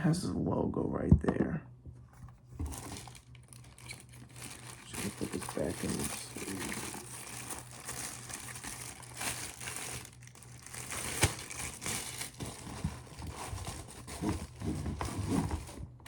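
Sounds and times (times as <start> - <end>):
plastic sleeve crinkling: 2.4 - 16.0.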